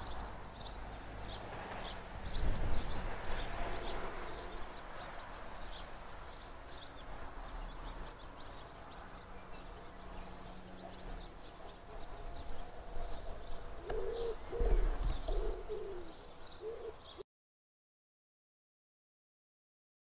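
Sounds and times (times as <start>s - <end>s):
distant rail machine rumble: 0.0s - 17.2s
small birds chirping: 0.0s - 17.2s.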